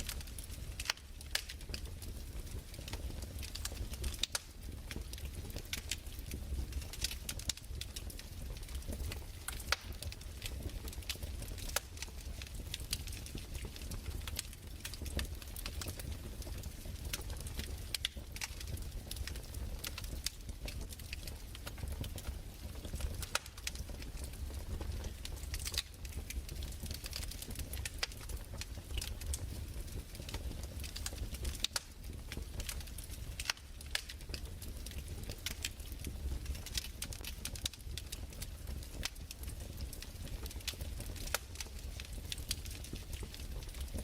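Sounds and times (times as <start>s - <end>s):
fireplace fire crackling: 0.0s - 44.0s.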